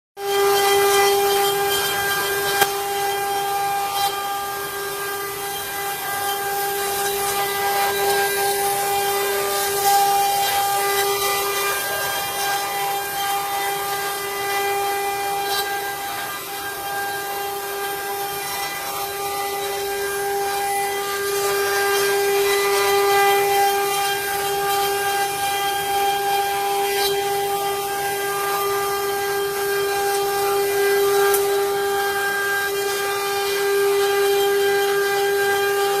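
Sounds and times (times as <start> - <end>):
wood router spindle whine: 0.2 - 36.0
wood cutting hiss: 0.4 - 36.0.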